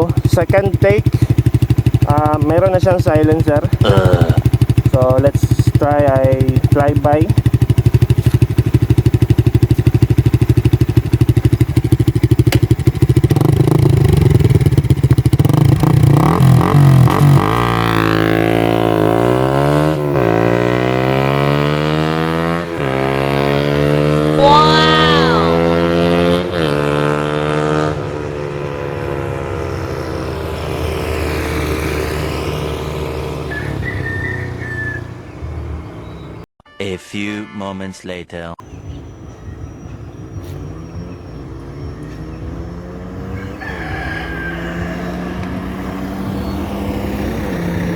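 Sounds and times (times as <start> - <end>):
motorcycle engine idling and revving: 0.0 - 36.5, 38.6 - 47.9.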